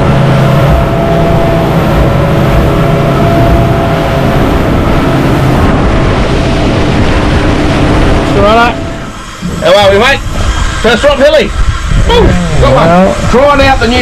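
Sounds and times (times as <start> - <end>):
motorboat engine drone: 0.0 - 14.0
rushing boat wake: 0.0 - 14.0
wind noise: 0.0 - 14.0.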